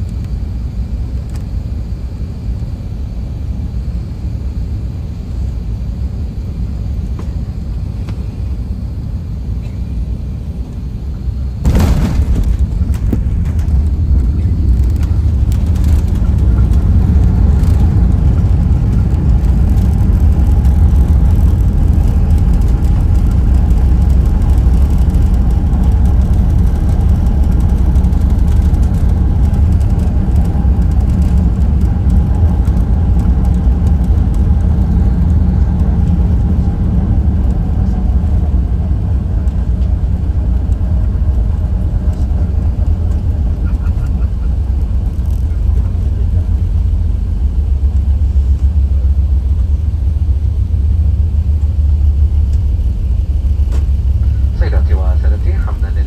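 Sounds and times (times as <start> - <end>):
airplane cabin low rumble: 0.0 - 56.0.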